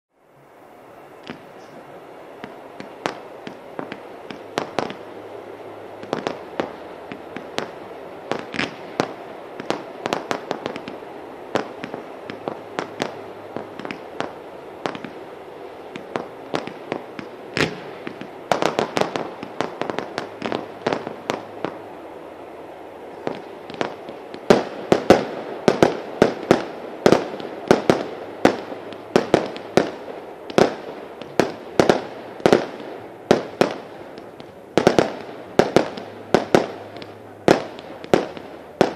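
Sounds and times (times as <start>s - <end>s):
fireworks hiss: 0.2s - 38.9s
fireworks bangs and cracks: 1.2s - 5.2s, 6.0s - 21.9s, 23.0s - 38.9s.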